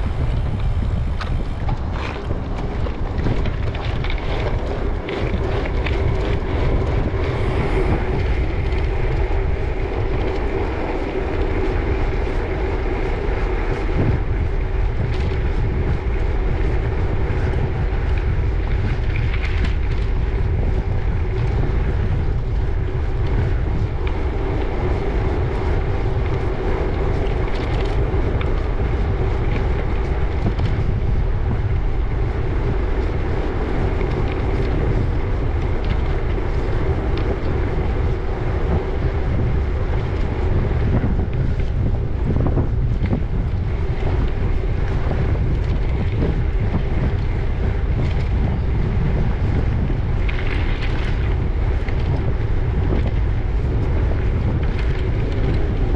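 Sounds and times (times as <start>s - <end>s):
wind rumbling on microphone: 0.0s - 55.9s.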